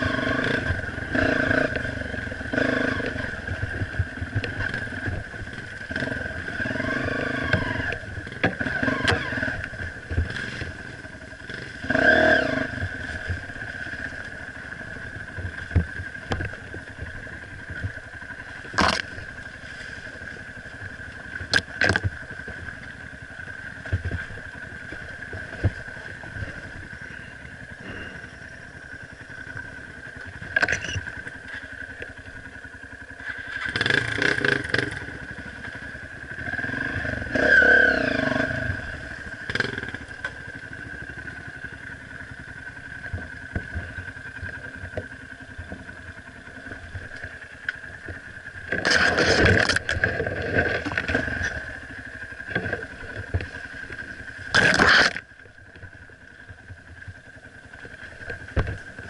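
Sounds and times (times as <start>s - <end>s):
motorbike engine revving: 0.0s - 31.8s, 32.6s - 44.6s, 45.2s - 55.3s.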